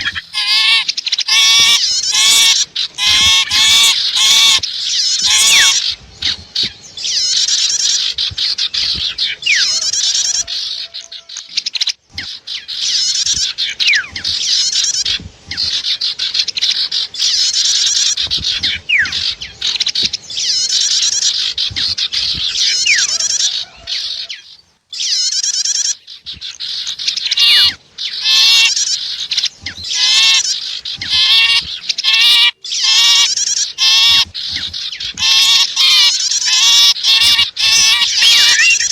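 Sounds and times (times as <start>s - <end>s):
birds chattering calls: 0.0s - 38.9s
sharp bird chirps: 0.0s - 38.9s.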